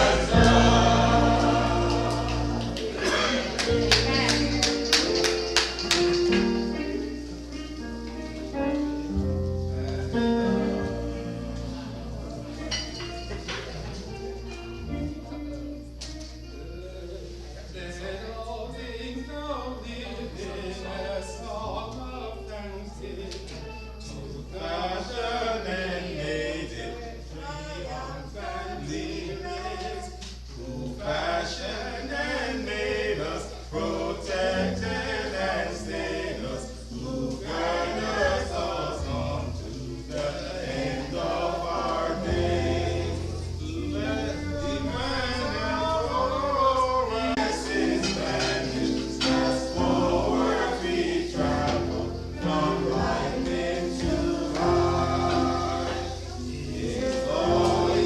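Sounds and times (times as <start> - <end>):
gospel choir singing a hymn: 0.0 - 58.0.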